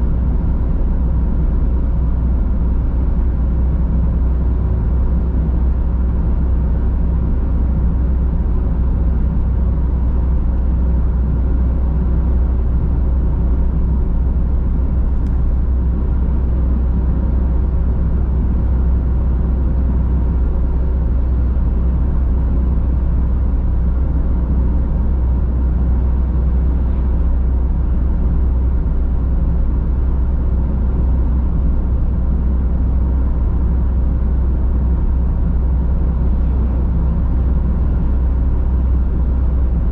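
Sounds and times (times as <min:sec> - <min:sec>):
car driving steadily: 0:00.0 - 0:39.9.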